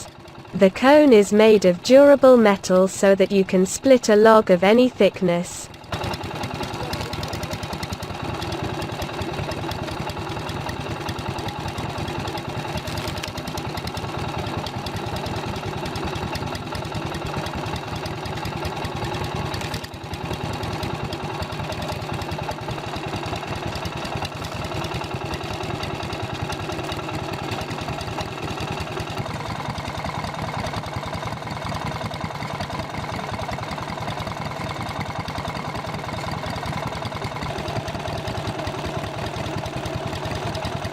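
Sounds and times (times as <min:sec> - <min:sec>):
log splitter engine running: 0:00.0 - 0:40.9.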